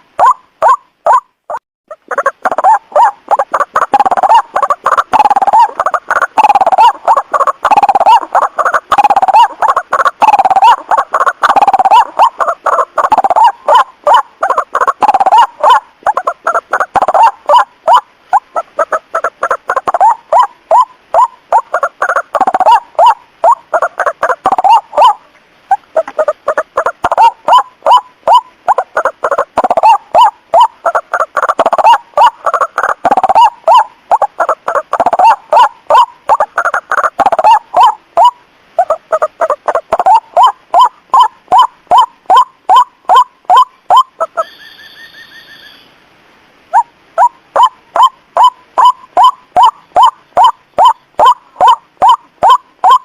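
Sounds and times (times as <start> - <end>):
bird calling repeated notes: 0.0 - 46.0, 46.7 - 53.0.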